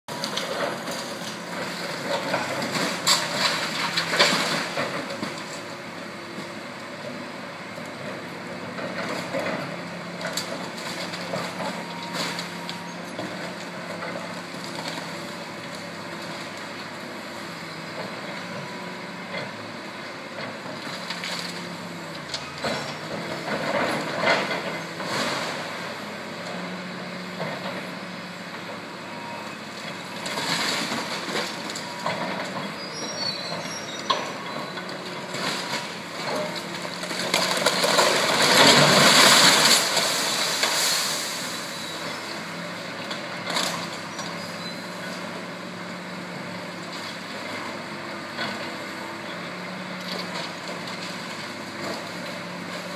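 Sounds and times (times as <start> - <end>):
hydraulic excavator running: 0.1 - 52.9.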